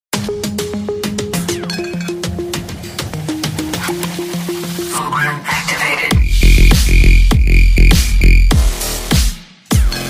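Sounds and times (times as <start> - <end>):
upbeat music with fast beat: 0.1 - 10.0.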